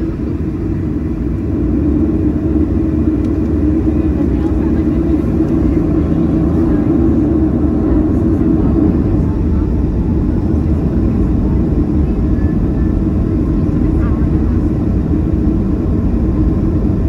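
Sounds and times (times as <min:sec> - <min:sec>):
low rumble of jet engines: 0:00.0 - 0:17.0.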